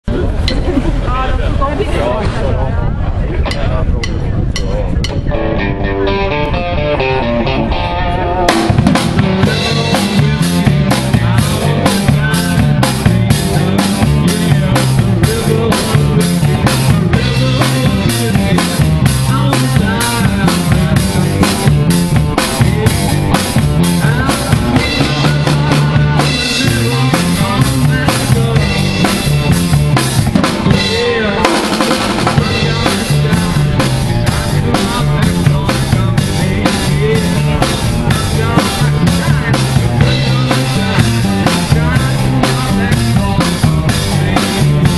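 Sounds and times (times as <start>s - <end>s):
electric bass: 0.0s - 44.9s
electric guitar: 5.0s - 44.9s
drum kit: 5.9s - 44.9s.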